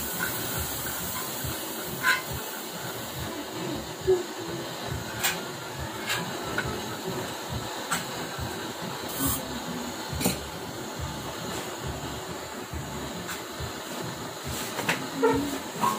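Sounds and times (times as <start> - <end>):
gas torch flame hissing: 0.0 - 15.9.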